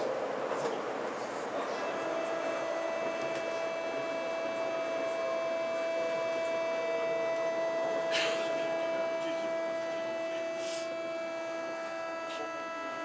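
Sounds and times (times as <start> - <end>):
train chopper whining hum: 0.0 - 13.0.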